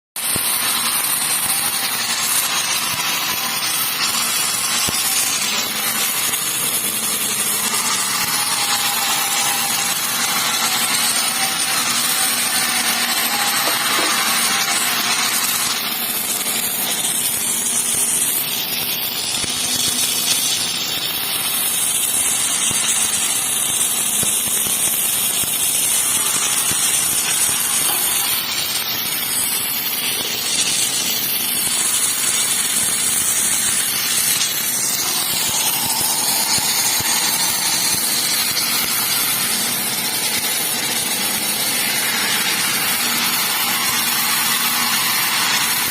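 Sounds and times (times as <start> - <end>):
welding hiss and crackle: 0.2 - 45.9.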